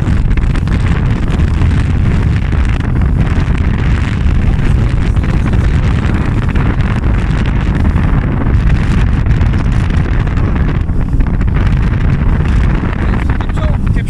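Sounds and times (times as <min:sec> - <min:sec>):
jet ski engine running: 0:00.0 - 0:14.0
wind rumbling on microphone: 0:00.0 - 0:14.0.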